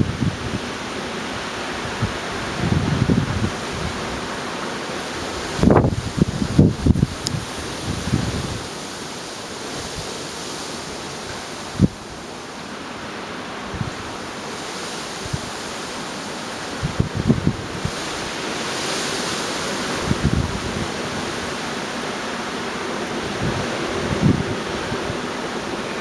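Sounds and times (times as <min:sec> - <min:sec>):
storm wind rushing: 0:00.0 - 0:08.9, 0:09.6 - 0:12.4, 0:13.6 - 0:26.0
wind buffeting the microphone: 0:00.0 - 0:12.4, 0:13.5 - 0:26.0.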